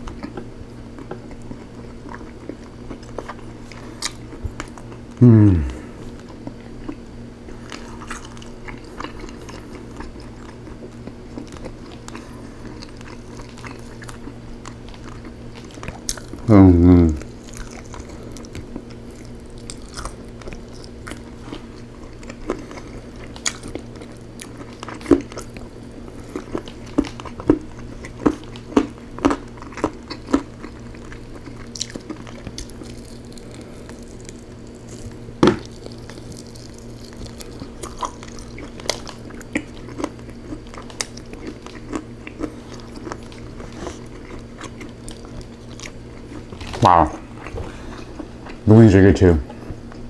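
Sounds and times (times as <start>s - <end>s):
steady low hum: 0.0s - 50.0s
chewing and wet mouth smacks: 6.2s - 16.5s, 17.2s - 48.6s.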